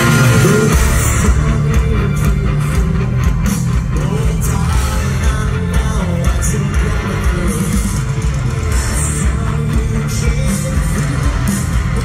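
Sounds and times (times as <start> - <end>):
person singing: 0.0 - 12.0
rock band playing: 0.0 - 12.0.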